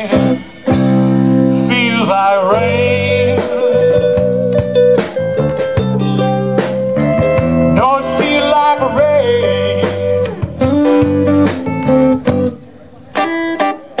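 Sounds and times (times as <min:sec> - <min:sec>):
drum kit beat: 0:00.0 - 0:13.4
bass guitar: 0:00.0 - 0:14.0
electric guitar: 0:00.0 - 0:14.0.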